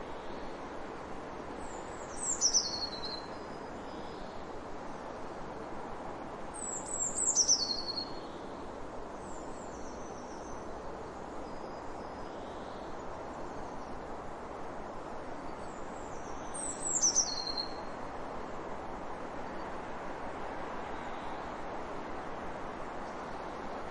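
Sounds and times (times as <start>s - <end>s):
background hiss: 0.0s - 23.9s.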